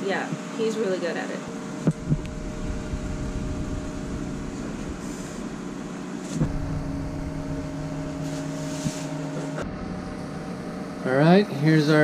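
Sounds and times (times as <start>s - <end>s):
steady mechanical hum: 0.0s - 12.0s
steady pitched tones: 0.8s - 12.0s.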